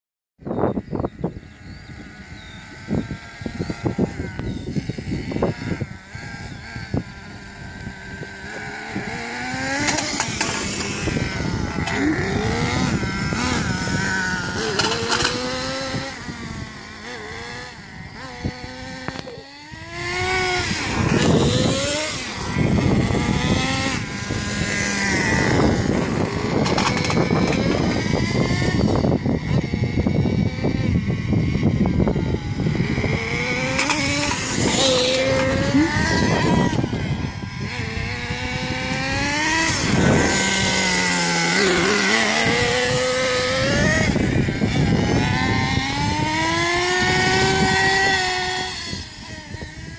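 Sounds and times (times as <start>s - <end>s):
rc truck engine revving: 1.2s - 49.9s.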